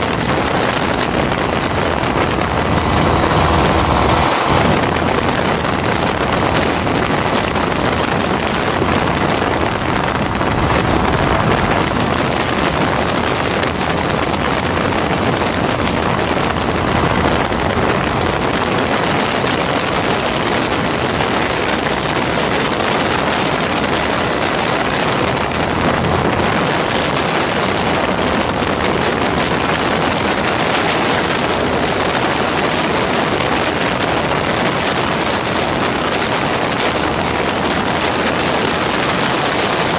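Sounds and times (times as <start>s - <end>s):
aircraft engine and propeller: 0.0s - 39.9s
wind noise on microphone: 0.0s - 39.9s.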